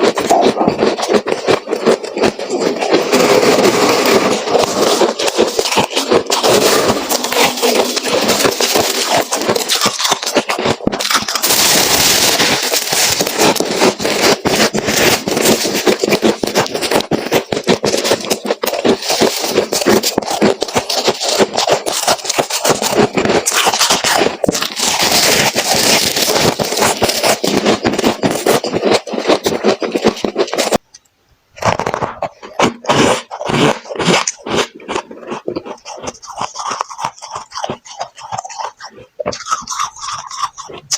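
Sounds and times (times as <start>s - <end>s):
crunching and scraping of frost: 0.0s - 30.8s, 31.6s - 40.9s.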